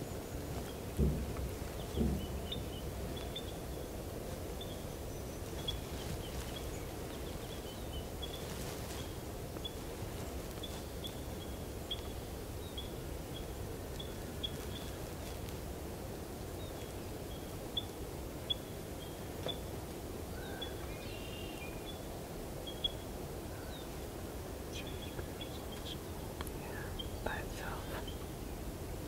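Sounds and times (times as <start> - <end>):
low steady background: 0.0 - 29.0.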